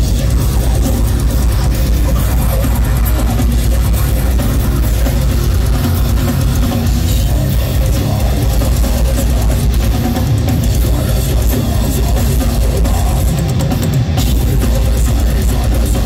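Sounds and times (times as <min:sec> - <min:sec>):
heavy metal band playing live: 0:00.0 - 0:16.0.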